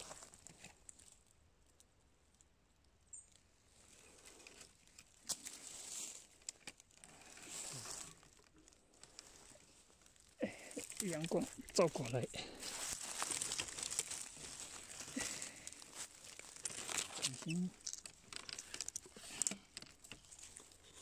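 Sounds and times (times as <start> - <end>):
rustling in dry pine needles: 3.5 - 21.0.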